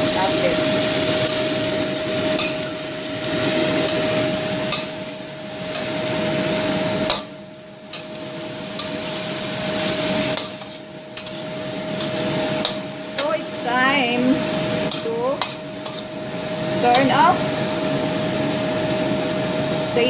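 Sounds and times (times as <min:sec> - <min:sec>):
exhaust fan hum: 0:00.0 - 0:20.0
vegetables sizzling in a pan: 0:00.0 - 0:20.0.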